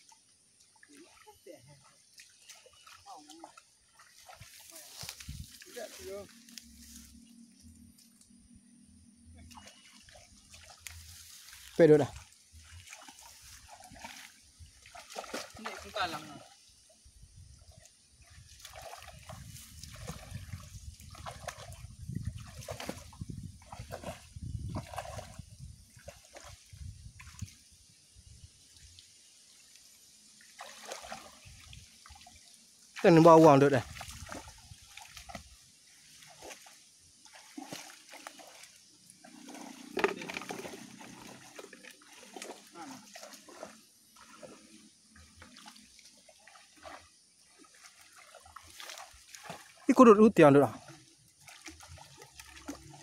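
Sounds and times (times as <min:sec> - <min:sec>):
muddy water splashing: 0:00.0 - 0:53.0.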